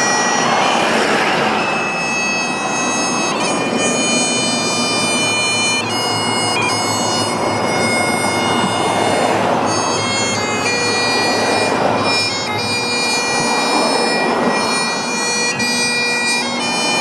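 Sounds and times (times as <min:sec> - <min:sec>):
bagpipe music with drone: 0:00.0 - 0:17.0
steady rushing noise: 0:00.0 - 0:17.0.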